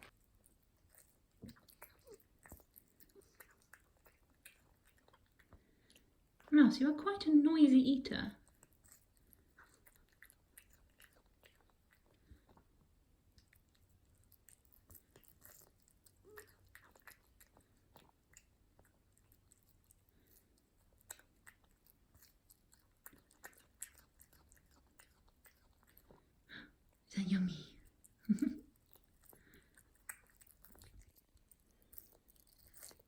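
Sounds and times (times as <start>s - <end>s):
cat chewing wet food: 0.0s - 7.1s, 8.4s - 27.1s, 27.7s - 33.0s.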